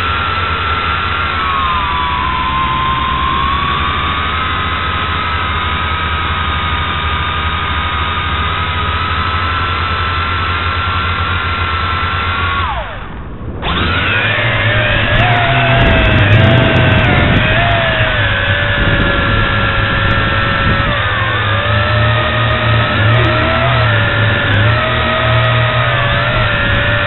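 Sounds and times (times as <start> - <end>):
drone propellers whining: 0.0 - 27.0.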